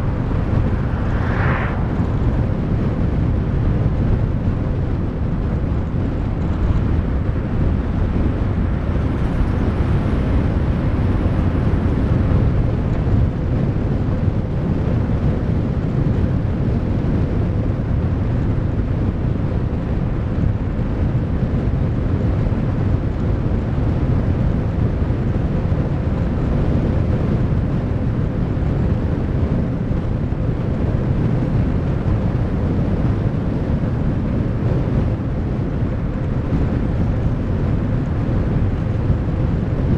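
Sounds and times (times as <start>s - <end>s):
vehicle rumble and wind rush: 0.0s - 39.9s.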